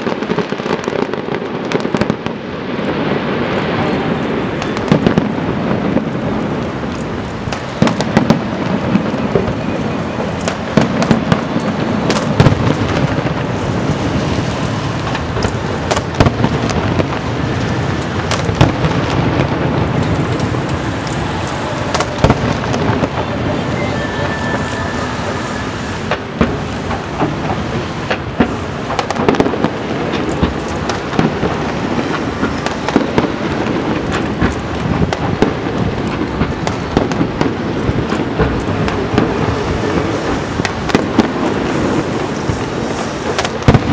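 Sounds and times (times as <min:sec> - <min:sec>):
fireworks bangs: 0:00.0 - 0:43.9
continuous rumble: 0:01.2 - 0:43.9.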